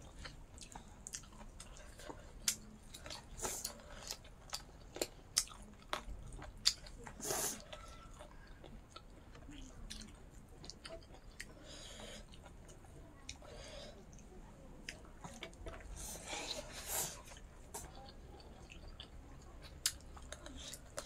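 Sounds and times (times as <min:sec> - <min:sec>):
chewing and mouth smacks: 0:00.0 - 0:13.4, 0:17.2 - 0:21.0.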